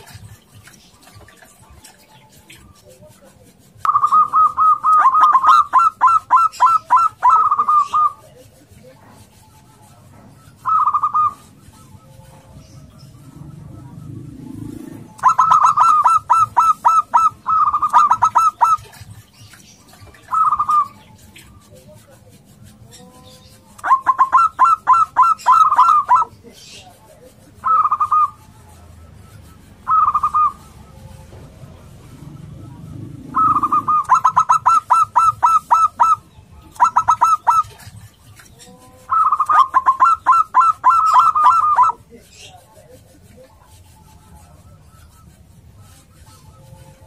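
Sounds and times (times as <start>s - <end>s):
dove cooing: 0.0s - 22.5s, 23.3s - 42.1s.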